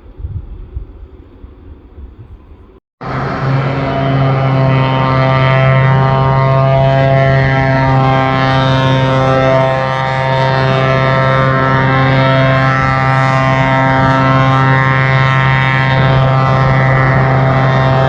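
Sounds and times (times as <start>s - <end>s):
aircraft engines droning: 0.8s - 18.0s.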